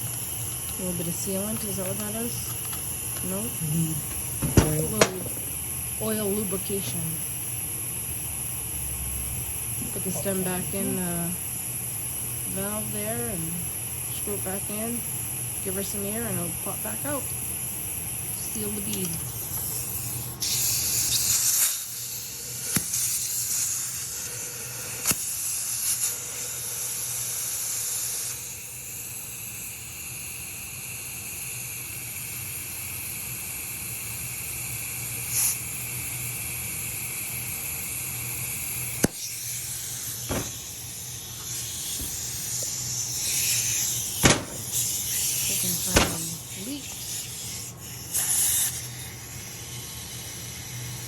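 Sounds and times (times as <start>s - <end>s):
compressed air hissing: 0.0s - 51.0s.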